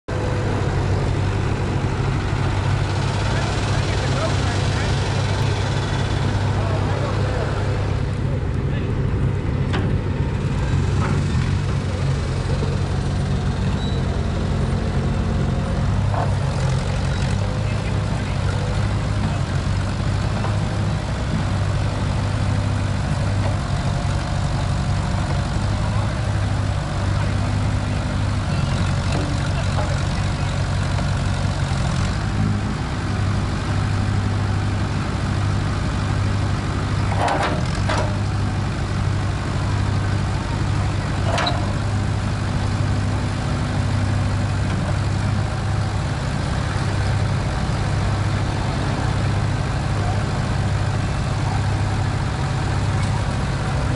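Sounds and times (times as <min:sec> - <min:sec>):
backhoe loader engine running: 0:00.1 - 0:53.9.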